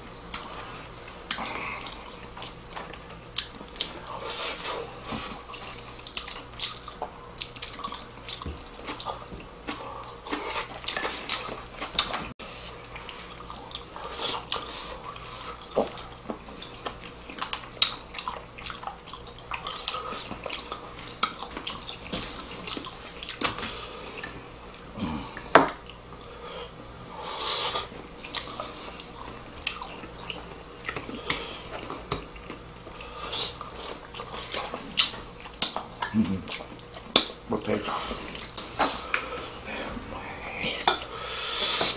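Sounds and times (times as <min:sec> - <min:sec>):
chewing and mouth smacking: 0:00.3 - 0:24.8, 0:27.7 - 0:37.4.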